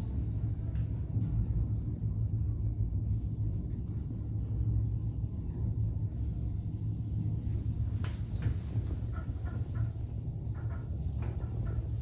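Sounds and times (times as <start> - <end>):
elevator car rumbling: 0.0 - 12.0.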